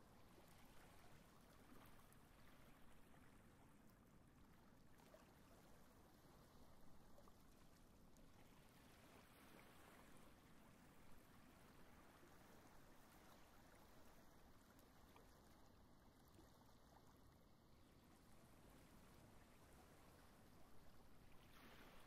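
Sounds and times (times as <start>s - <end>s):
small waves lapping on a beach: 0.0s - 22.0s.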